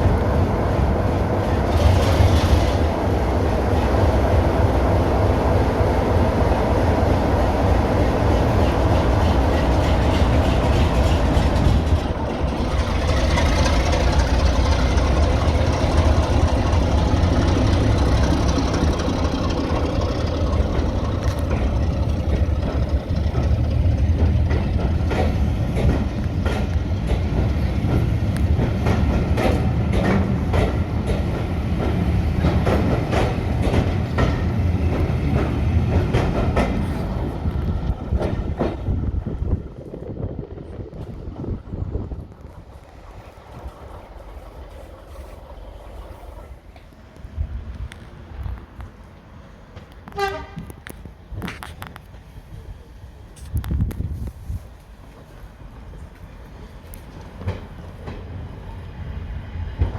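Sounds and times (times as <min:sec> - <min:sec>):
diesel train engine drone: 0:00.0 - 0:59.9.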